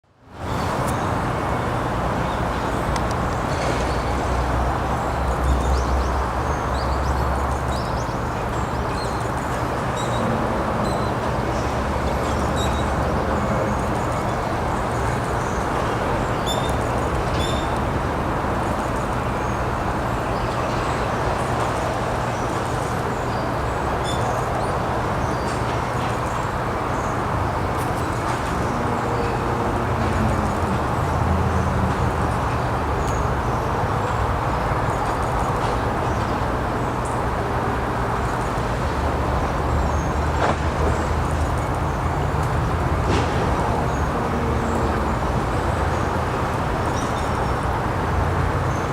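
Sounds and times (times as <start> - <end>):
outdoor background rush: 0.0 - 48.9.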